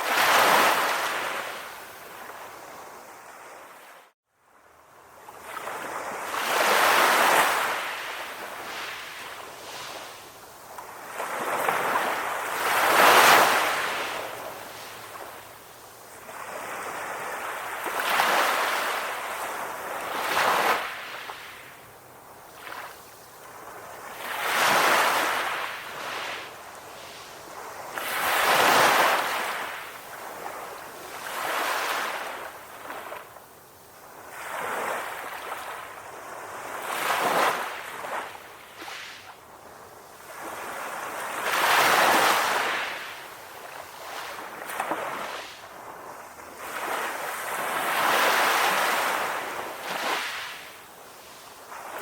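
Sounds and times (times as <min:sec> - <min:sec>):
ocean waves washing ashore: 0:00.0 - 0:52.0.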